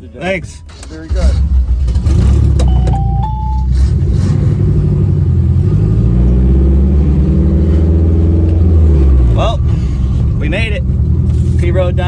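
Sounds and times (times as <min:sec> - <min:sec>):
race car engine rumbling: 0:00.0 - 0:12.0.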